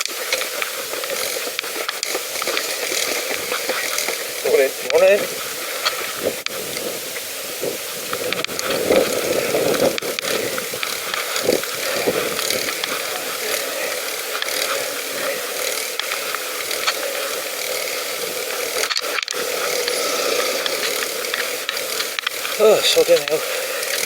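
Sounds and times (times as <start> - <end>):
bicycle freewheel ticking: 0.0 - 24.0
bicycle riding rattle: 0.0 - 24.0.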